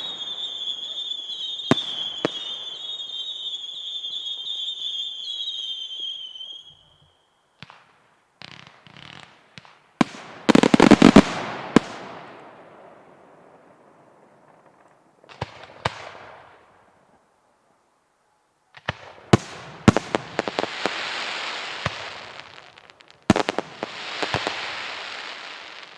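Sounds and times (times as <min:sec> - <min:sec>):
firework bangs and cracks: 0:00.0 - 0:04.8, 0:07.6 - 0:16.6, 0:18.8 - 0:25.9
whistling fireworks: 0:00.0 - 0:16.8, 0:18.7 - 0:25.9.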